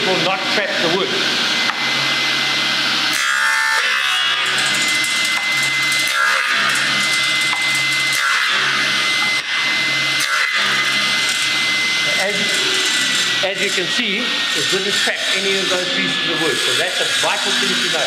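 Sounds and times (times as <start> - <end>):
panel saw whining: 0.0 - 18.0
saw blade cutting wood: 3.1 - 18.0.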